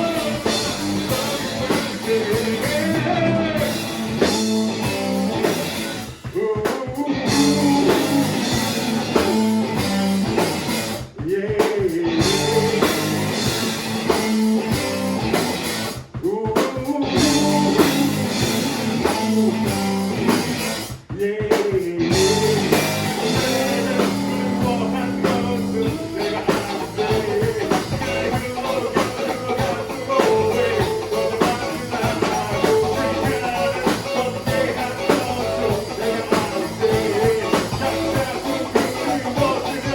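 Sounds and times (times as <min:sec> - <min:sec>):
person singing: 0:00.0 - 0:10.4, 0:11.2 - 0:13.3, 0:16.2 - 0:20.2, 0:21.2 - 0:39.9
drum kit: 0:00.0 - 0:39.9
electric guitar: 0:00.0 - 0:39.9.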